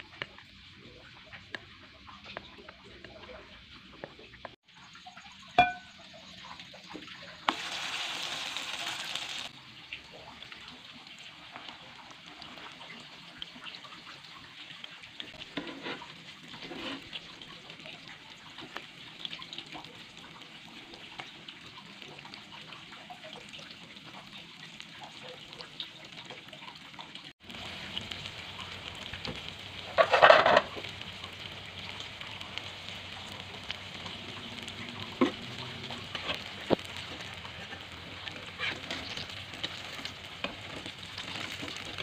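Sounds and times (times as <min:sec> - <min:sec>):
food deep-frying in oil: 0:00.0 - 0:42.0.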